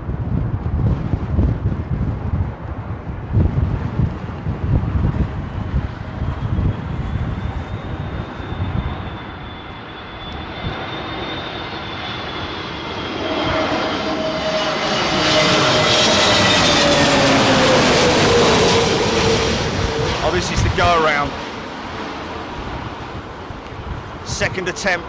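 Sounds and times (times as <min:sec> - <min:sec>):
wind rumble on microphone: 0:00.0 - 0:12.5, 0:13.1 - 0:25.0
jet engines whining: 0:01.5 - 0:25.0.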